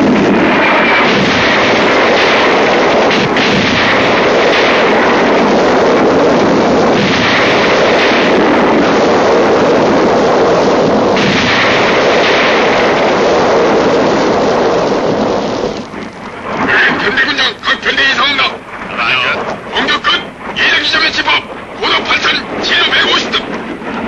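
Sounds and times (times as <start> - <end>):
roar of explosions: 0.0 - 24.0.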